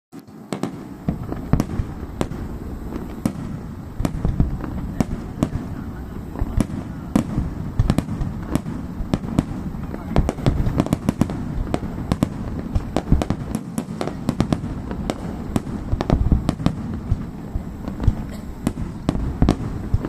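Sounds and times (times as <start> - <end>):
fireworks bangs and crackles: 0.2 - 20.0
low rumble of booms: 0.8 - 20.0.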